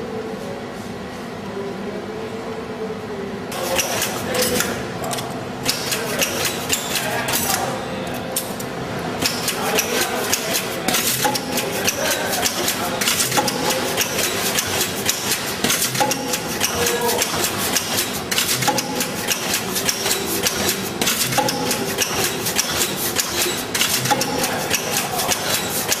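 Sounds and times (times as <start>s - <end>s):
machine mechanical clatter: 3.5s - 26.0s.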